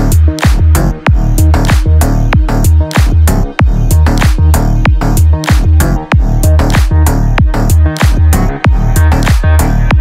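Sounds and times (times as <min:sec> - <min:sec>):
electro house music: 0:00.0 - 0:10.0.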